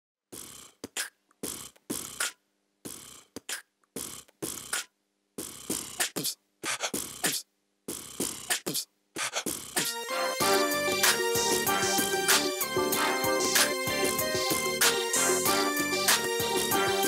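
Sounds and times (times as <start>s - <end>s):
beatboxing: 0.3s - 17.0s.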